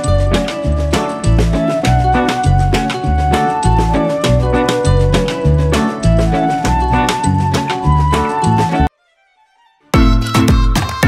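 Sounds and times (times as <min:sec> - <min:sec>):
upbeat music with bass beat: 0:00.0 - 0:08.9, 0:10.0 - 0:11.0.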